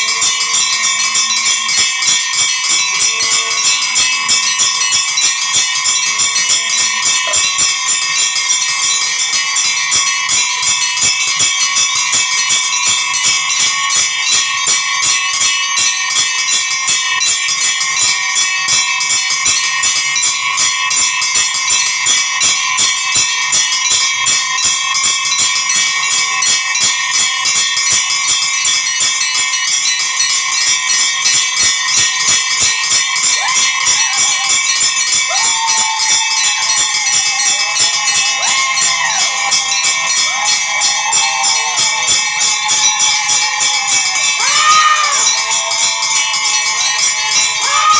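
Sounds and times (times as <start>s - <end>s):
bells ringing in rapid strokes: 0.0s - 47.9s.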